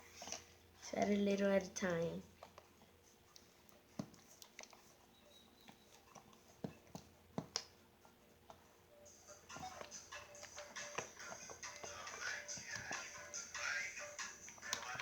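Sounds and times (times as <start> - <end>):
faint clicks and taps: 0.0 - 8.8, 9.5 - 13.6, 14.2 - 15.0.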